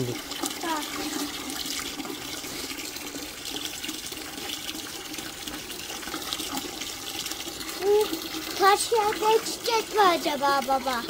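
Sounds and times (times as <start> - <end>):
water pouring into metal bucket: 0.0 - 11.0.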